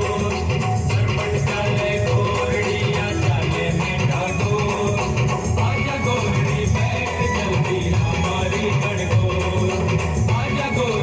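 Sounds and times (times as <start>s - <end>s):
loud dance music: 0.0s - 11.0s.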